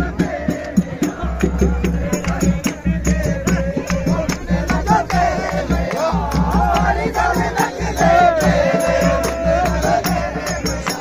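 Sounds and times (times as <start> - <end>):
crowd: 0.0 - 11.0
festive music with drum beat: 0.0 - 11.0.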